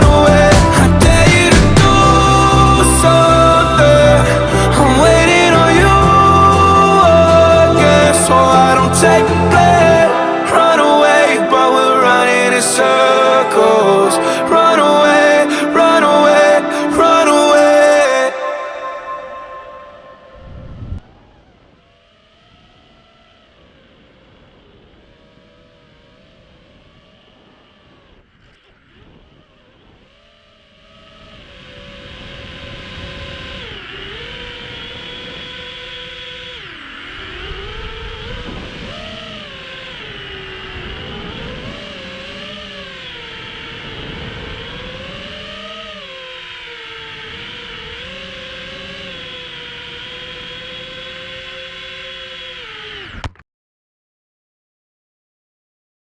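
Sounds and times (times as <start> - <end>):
quadcopter motors whining: 0.0 - 53.4.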